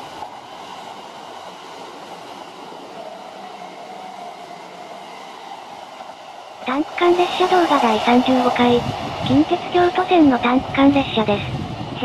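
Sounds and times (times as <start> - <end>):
faint train whine: 0.0 - 12.0
train wheels rushing: 0.0 - 12.0.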